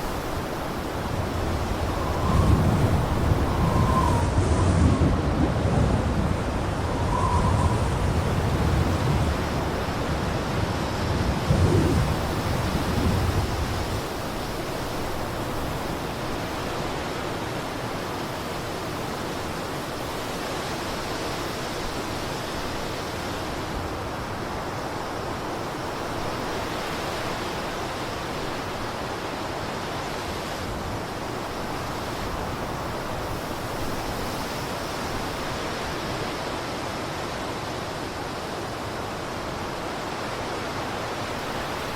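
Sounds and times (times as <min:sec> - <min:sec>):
blizzard wind gusts: 0:00.0 - 0:41.9.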